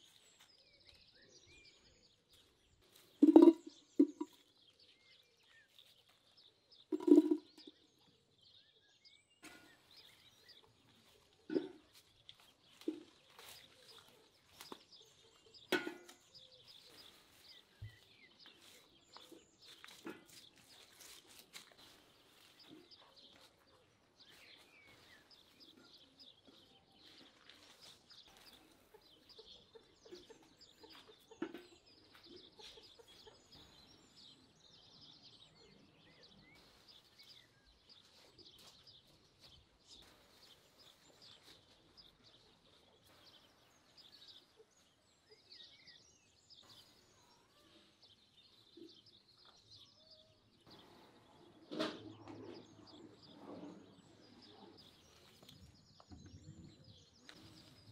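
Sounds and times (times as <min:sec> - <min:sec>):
faint birds chirping: 0:00.0 - 0:57.9.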